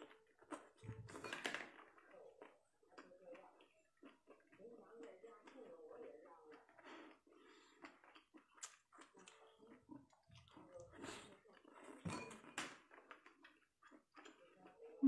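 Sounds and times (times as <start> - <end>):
wet chewing and slurping: 0.0 - 15.0.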